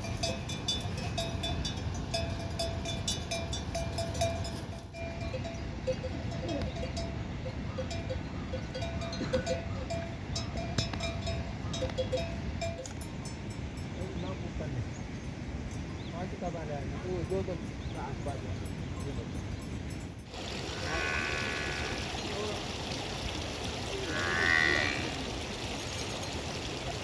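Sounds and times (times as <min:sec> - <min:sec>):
livestock bells clanking: 0:00.0 - 0:14.2, 0:18.5 - 0:27.0.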